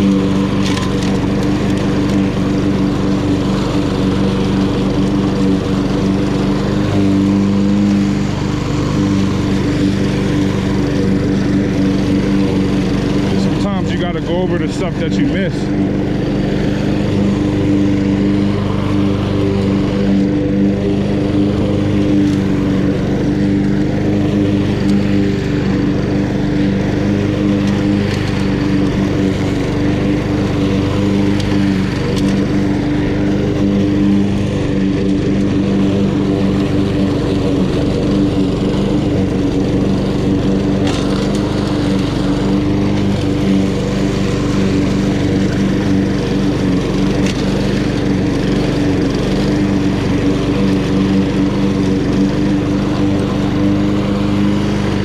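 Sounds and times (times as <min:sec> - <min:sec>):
lawn mower running: 0:00.0 - 0:55.0.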